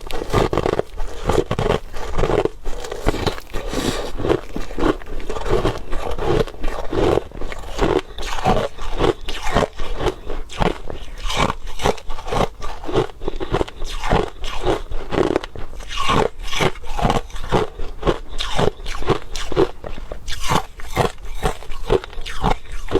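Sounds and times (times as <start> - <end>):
crushed ice being chewed: 0.0 - 22.9.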